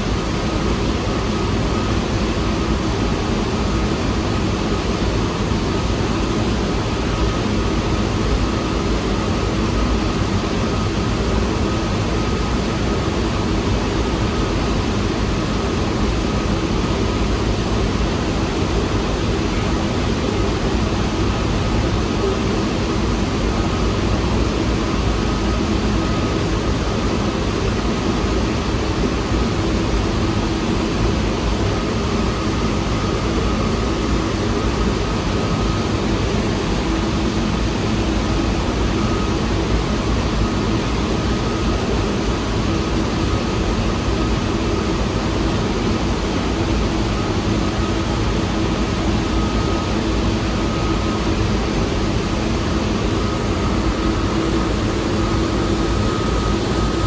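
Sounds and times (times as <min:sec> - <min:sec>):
faint hum: 0:00.0 - 0:57.0
subway train rumble and hiss: 0:00.0 - 0:57.0.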